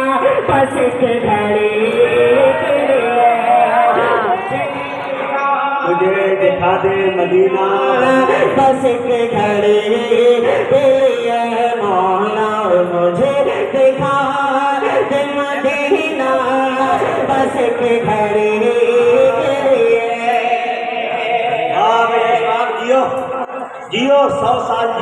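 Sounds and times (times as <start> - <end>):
man chanting over loudspeaker: 0.0 - 25.0.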